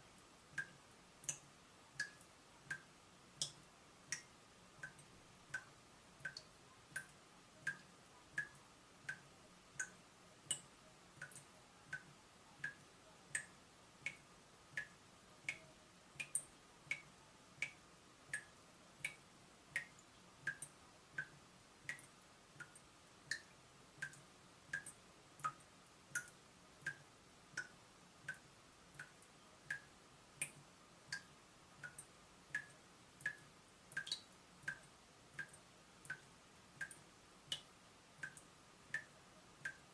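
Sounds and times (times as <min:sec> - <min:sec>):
water dripping from tap: 0:00.5 - 0:19.2, 0:19.8 - 0:39.9.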